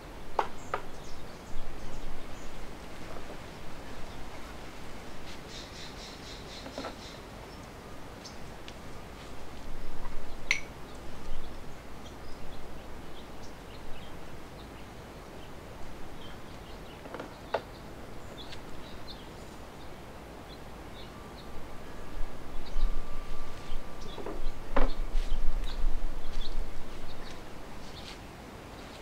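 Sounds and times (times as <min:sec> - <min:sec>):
small birds chirping: 0:00.0 - 0:04.6, 0:05.2 - 0:22.0, 0:22.6 - 0:29.0
outdoor background hiss: 0:00.0 - 0:29.0.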